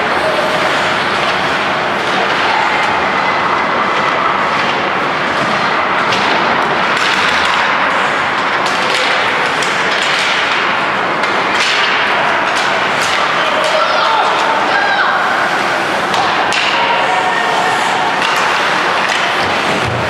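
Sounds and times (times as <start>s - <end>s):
hockey sticks and puck knocking: 1.0s - 14.9s, 15.5s - 20.0s.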